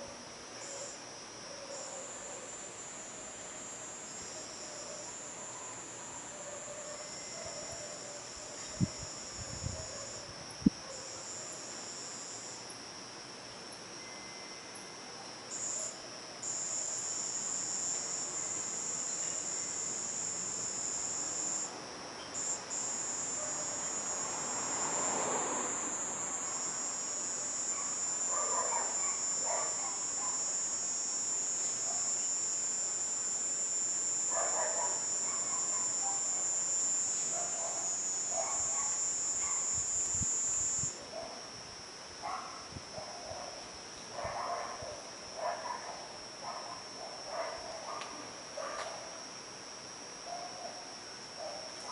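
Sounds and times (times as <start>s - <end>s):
cicada buzzing whine: 0.0s - 51.9s.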